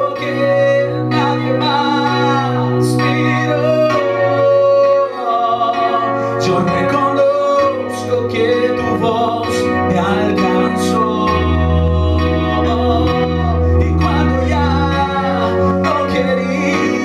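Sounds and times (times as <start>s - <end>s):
instrumental backing track: 0.0s - 17.0s
man singing: 0.0s - 17.0s.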